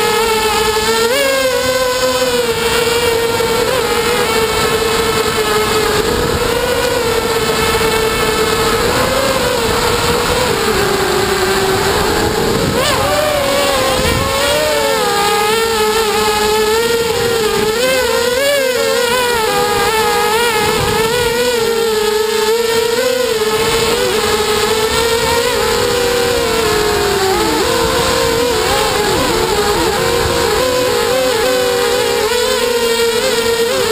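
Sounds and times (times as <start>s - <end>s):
quadcopter motors whining: 0.0s - 33.9s
wind noise: 2.4s - 32.5s.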